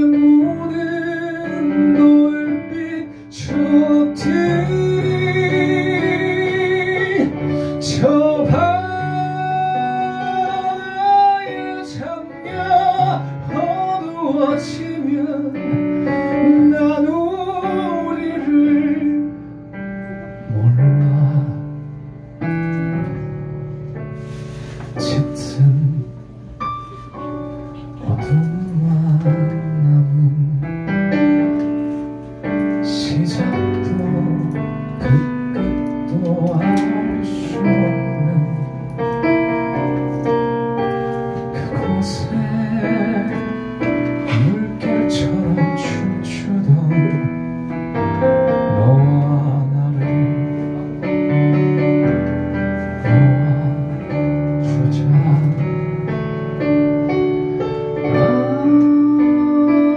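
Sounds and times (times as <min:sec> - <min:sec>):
man singing: 0:00.0 - 0:19.4, 0:20.3 - 0:22.0, 0:24.9 - 0:27.0, 0:27.8 - 0:31.5, 0:32.6 - 0:39.6, 0:41.4 - 0:52.0, 0:52.8 - 0:56.2, 0:57.9 - 0:59.9
piano playing chords: 0:00.0 - 0:59.9.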